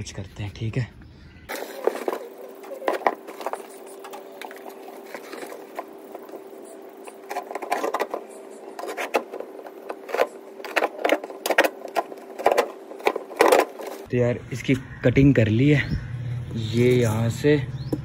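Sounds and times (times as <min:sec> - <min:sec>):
steady hum: 0:01.0 - 0:17.1.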